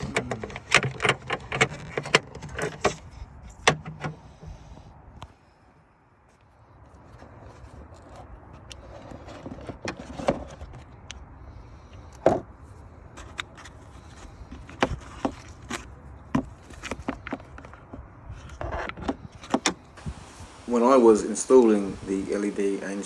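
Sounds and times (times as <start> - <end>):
hands handling headlight parts: 0.0 - 5.3, 6.3 - 20.8.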